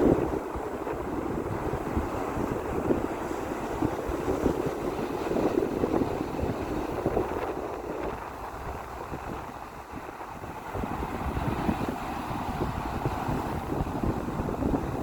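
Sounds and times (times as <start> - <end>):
ocean waves washing in: 0.0 - 15.0
wind on microphone: 0.0 - 15.0.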